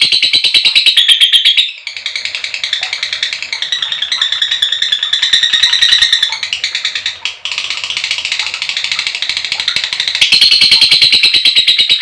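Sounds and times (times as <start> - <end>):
lovebird chattering: 0.0 - 12.0.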